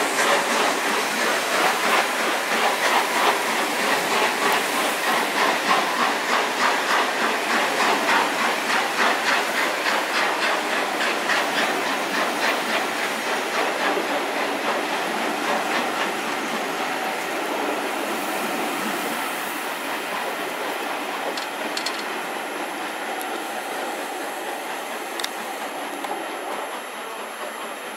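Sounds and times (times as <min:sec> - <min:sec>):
steam locomotive exhaust beats: 0:00.0 - 0:27.9
train wheels clattering on rails: 0:00.0 - 0:27.9.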